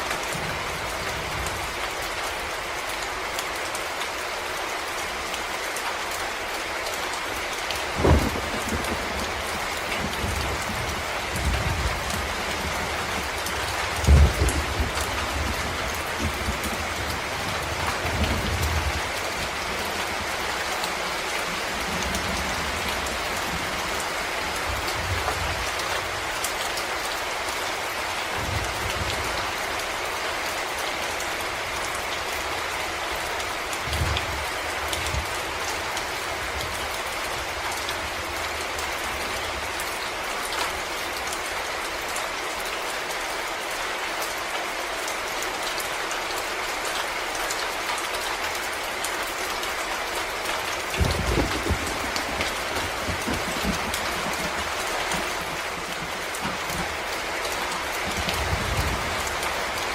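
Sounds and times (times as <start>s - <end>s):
rain on leaves and ground: 0.0s - 59.9s.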